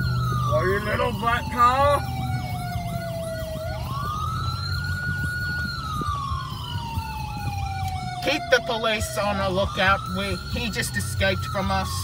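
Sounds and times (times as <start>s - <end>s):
siren wail: 0.0s - 12.0s
siren yelp: 0.0s - 12.0s.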